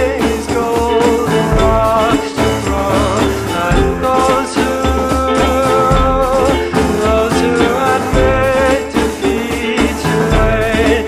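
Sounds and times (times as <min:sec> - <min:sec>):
song with steady bass beat: 0:00.0 - 0:11.0.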